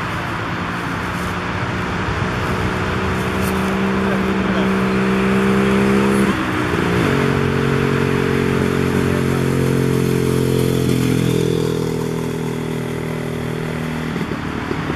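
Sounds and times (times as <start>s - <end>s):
scooter engine passing by: 0.0s - 14.9s.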